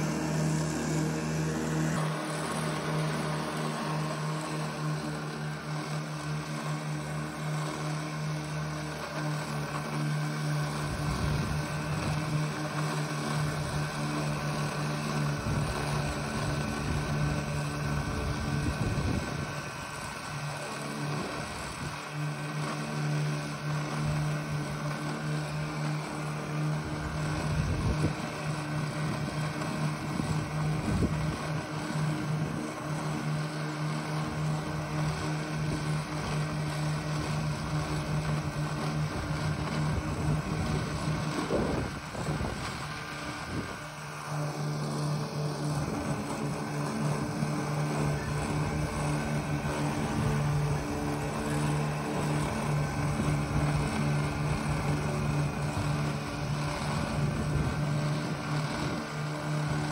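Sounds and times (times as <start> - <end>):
electric lawn mower humming: 0.0 - 59.9.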